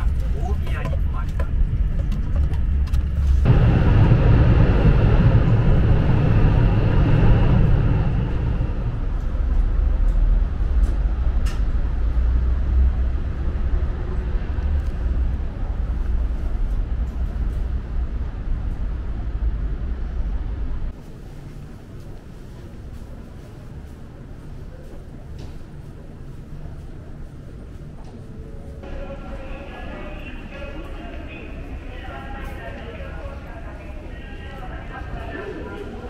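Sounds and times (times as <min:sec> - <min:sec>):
high-speed train rumble inside carriage: 0:00.0 - 0:36.0.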